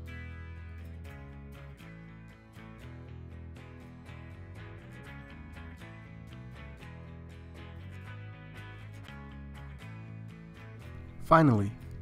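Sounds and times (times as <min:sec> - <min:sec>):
plucked guitar music with beat: 0:00.0 - 0:12.0.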